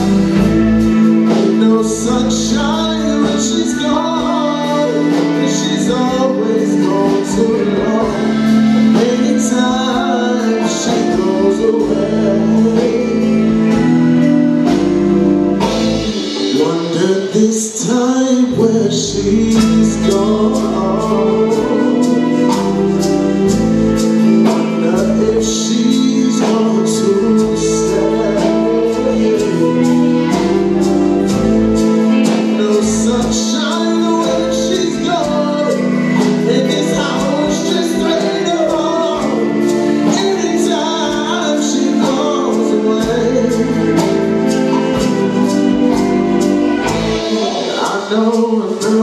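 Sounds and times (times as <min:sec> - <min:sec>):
drums steady beat: 0:00.0 - 0:49.0
live rhythm and blues band: 0:00.0 - 0:49.0
person singing: 0:00.0 - 0:49.0.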